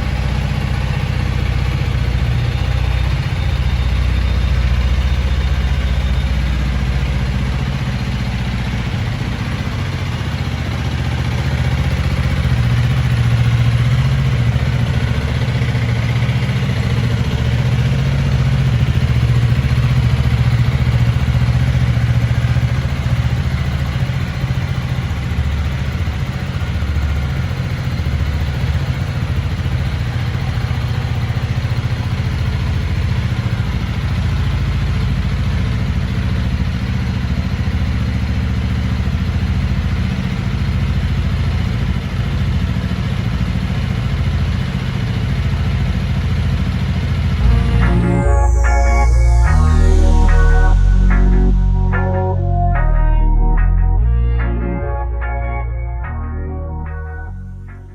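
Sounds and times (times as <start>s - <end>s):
motorcycle engine idling: 0.0s - 47.4s.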